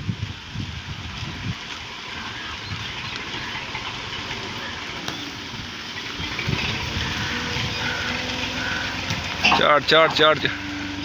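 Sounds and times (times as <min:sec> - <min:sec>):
outdoor hiss: 0:00.0 - 0:11.0
diesel tractor engine idling: 0:01.6 - 0:11.0.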